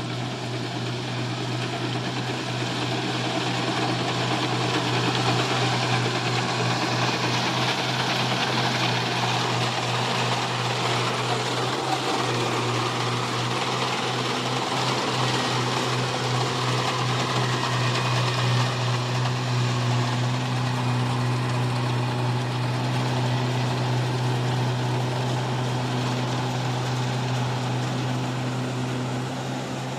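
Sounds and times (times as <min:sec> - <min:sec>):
combine harvester running: 0:00.0 - 0:29.9.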